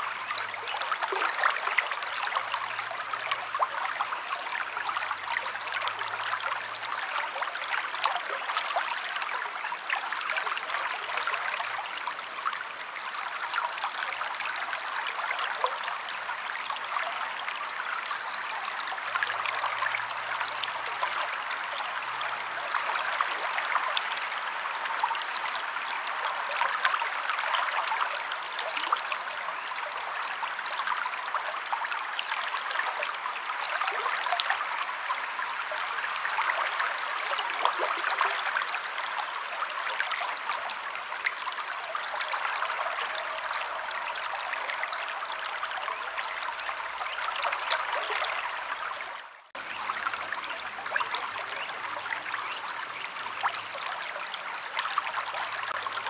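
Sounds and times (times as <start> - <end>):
river water babbling: 0.0 - 56.0.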